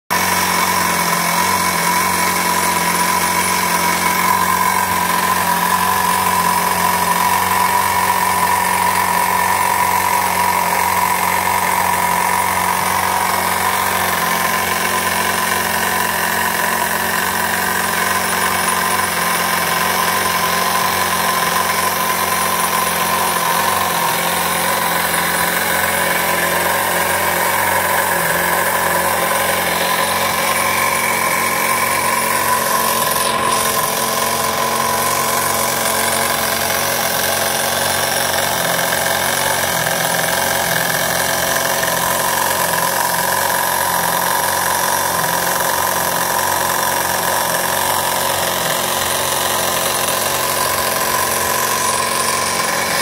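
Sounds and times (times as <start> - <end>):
model engine buzzing: 0.0 - 53.0.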